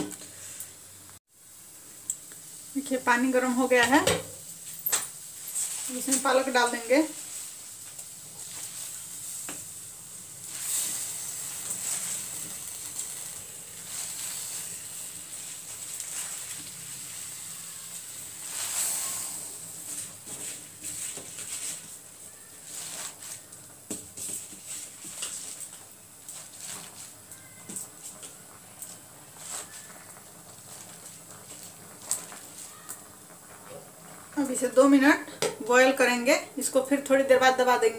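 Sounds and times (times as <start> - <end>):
hot water hissing: 0.0 - 37.9.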